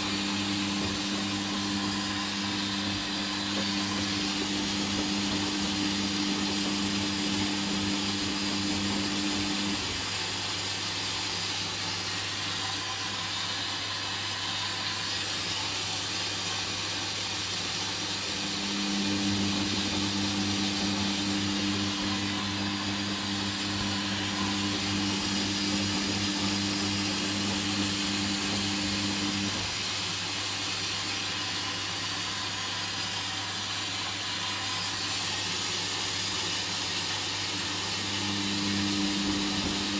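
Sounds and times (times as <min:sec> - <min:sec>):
washing machine hiss and hum: 0:00.0 - 0:39.9
washing machine motor whine: 0:00.0 - 0:39.9.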